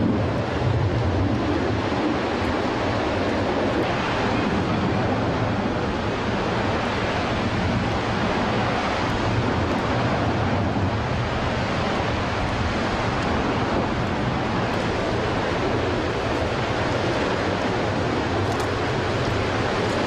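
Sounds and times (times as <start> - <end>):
large gas fire rushing: 0.0 - 20.0.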